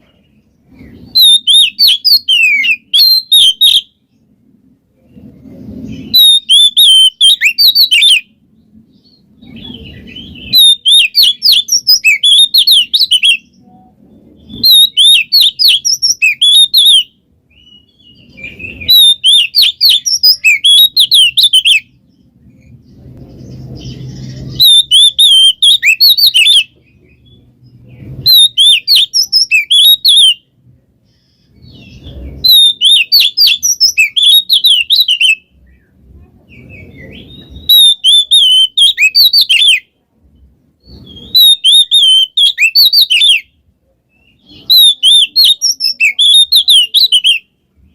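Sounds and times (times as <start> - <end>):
bird singing rapid chattering phrases: 0.0 - 4.2, 5.7 - 30.5, 31.4 - 39.8, 40.8 - 43.5, 44.1 - 47.9.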